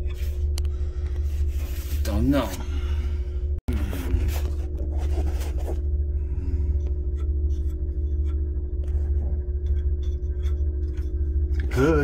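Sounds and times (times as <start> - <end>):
constant mid-pitched tone: 0.0 - 12.0
low hum: 0.0 - 12.0.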